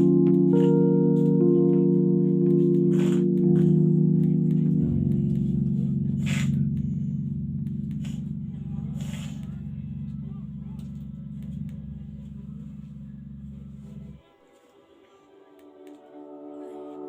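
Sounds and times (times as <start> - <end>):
held keyboard chords: 0.0 - 14.2, 15.6 - 17.0.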